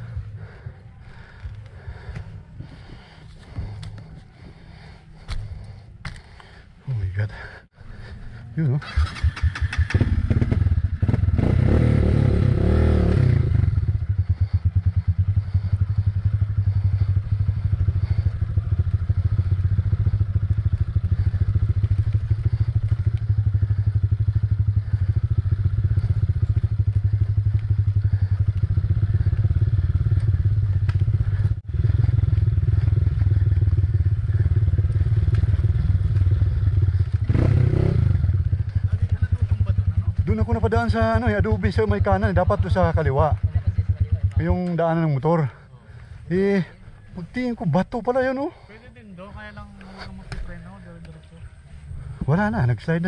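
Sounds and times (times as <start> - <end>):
motorcycle engine running: 0.0 - 6.4, 8.0 - 53.0.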